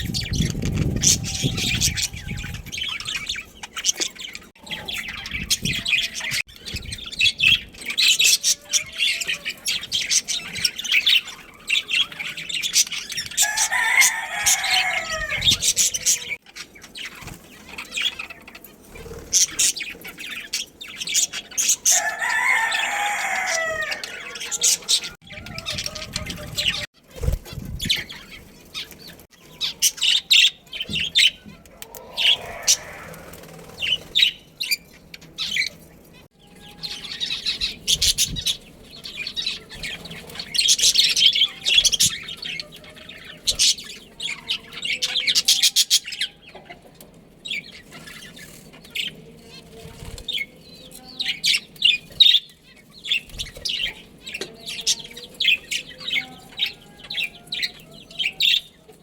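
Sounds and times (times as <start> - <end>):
budgerigars chirping and chattering: 0.0 - 59.0.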